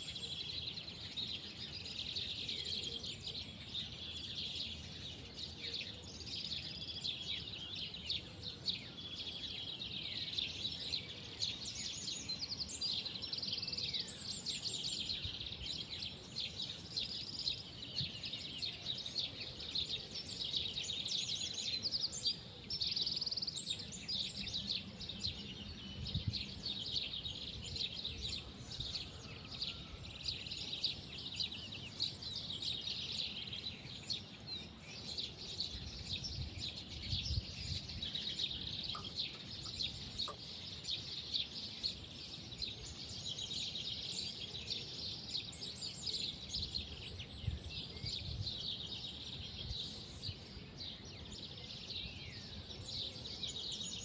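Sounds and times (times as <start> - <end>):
small birds chirping and twittering: 0.0 - 54.0.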